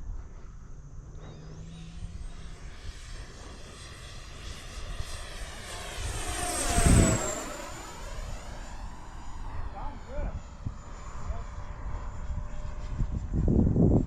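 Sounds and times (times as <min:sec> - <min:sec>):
electric ducted fan jet whining: 0:00.0 - 0:14.0.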